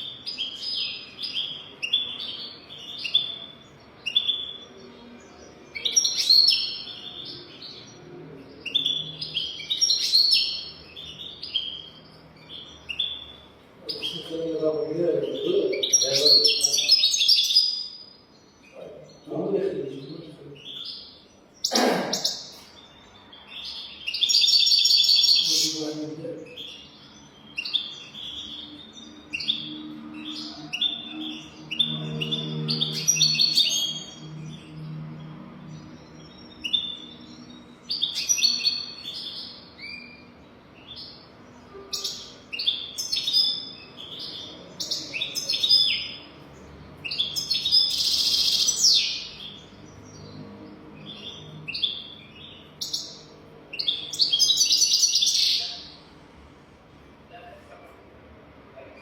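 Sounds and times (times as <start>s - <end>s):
goldfinch twittering chirps: 0.0s - 55.8s.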